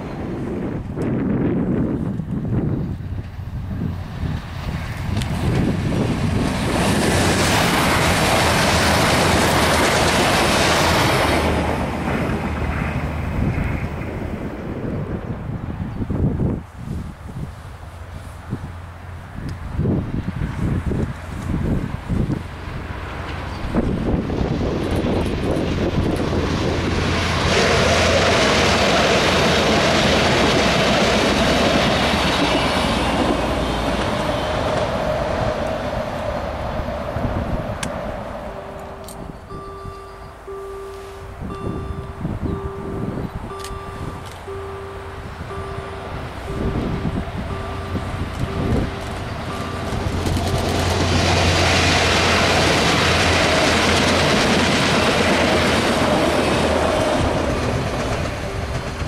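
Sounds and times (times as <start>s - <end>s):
low diesel hum: 0.0s - 59.0s
train rumbling past on rails: 0.0s - 59.0s.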